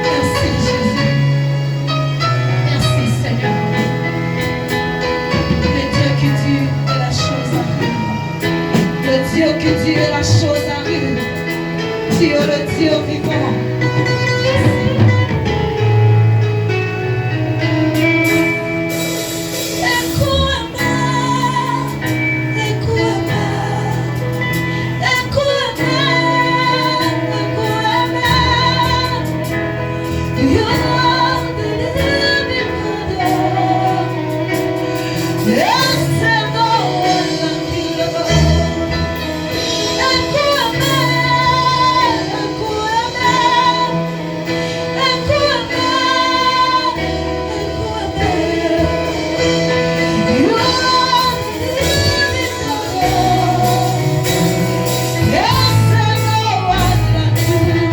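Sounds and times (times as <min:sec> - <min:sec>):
woman singing with vibrato: 0:00.0 - 0:16.7, 0:17.6 - 0:57.9
instruments holding bass notes: 0:00.0 - 0:57.9.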